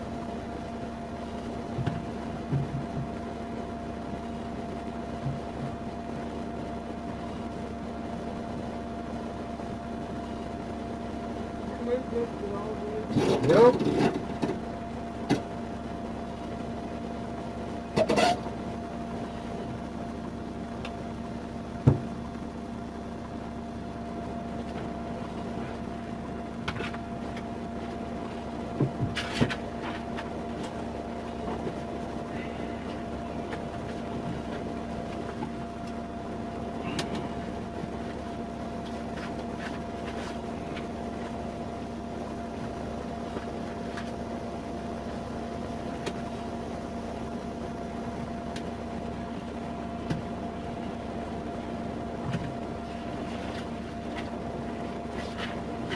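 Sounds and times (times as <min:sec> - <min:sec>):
mechanical hum: 0:00.0 - 0:55.9.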